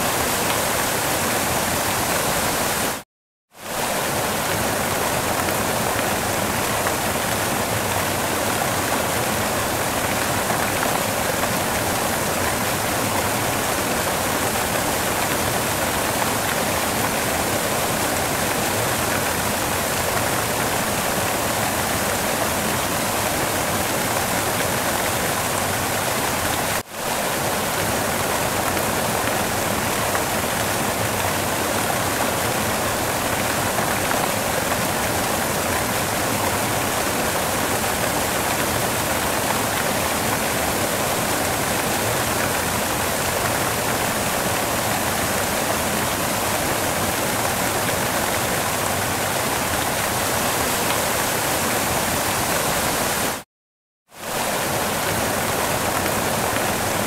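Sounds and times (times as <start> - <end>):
waterfall roaring: 0.0 - 3.0, 3.6 - 53.4, 54.2 - 57.0.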